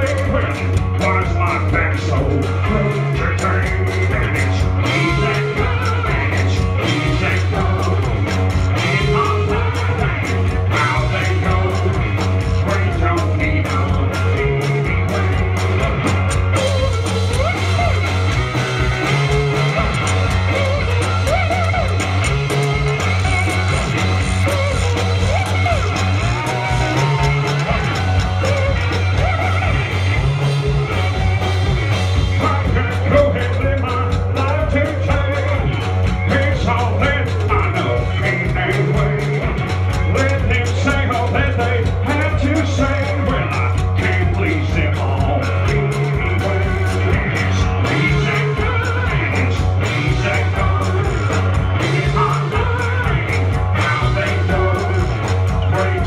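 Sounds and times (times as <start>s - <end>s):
live band playing: 0.0s - 56.0s
person singing: 0.0s - 56.0s.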